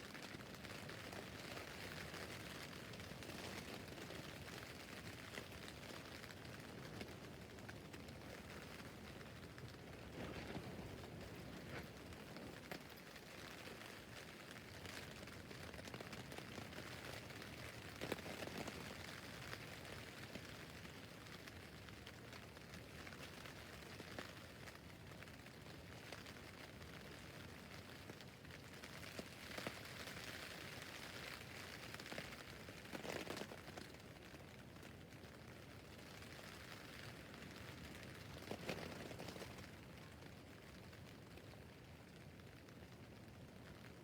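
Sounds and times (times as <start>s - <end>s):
rain pattering on tent fabric: 0.0s - 44.0s.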